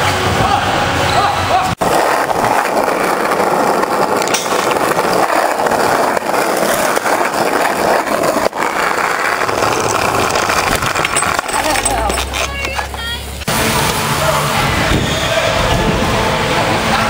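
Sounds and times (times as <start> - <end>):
wheels rolling on concrete: 1.2 - 17.0.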